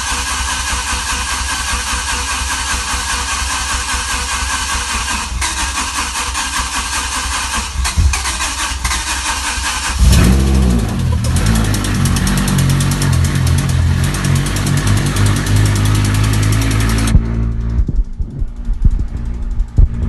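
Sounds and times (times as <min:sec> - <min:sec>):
engine idling: 0:00.0 - 0:20.0
starter cranking engine: 0:00.0 - 0:20.0.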